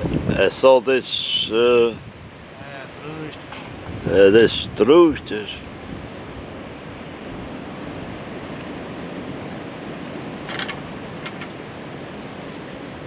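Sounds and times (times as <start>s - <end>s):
sea surf against rocks: 0.0s - 13.0s.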